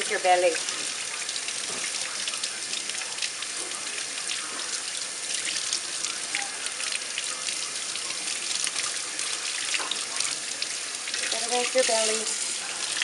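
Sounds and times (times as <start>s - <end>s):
faucet water running: 0.0s - 13.0s
water splashing and dripping: 0.0s - 13.0s.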